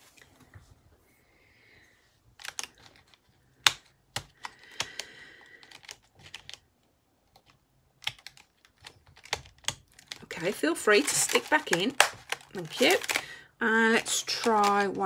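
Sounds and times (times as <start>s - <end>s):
pencils clicking on plastic tray: 2.4s - 6.7s, 7.3s - 15.0s.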